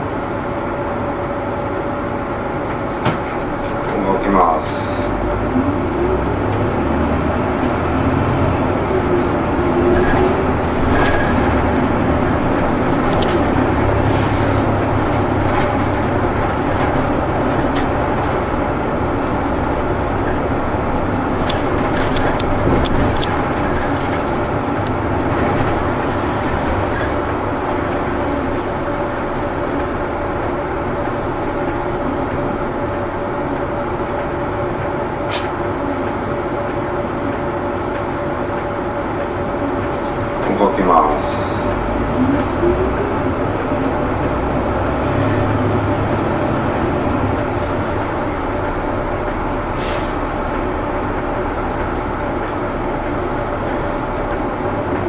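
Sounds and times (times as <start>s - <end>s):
bus diesel engine: 0.0s - 55.0s
road noise: 0.0s - 55.0s.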